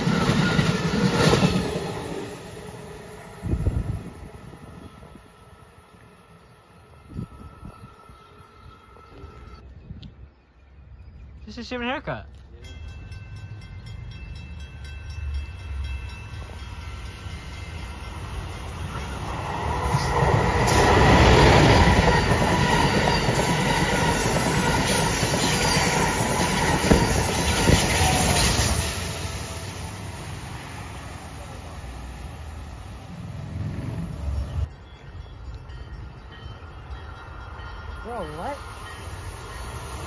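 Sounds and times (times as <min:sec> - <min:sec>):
train passing at speed: 0:00.0 - 0:09.6, 0:12.6 - 0:40.0.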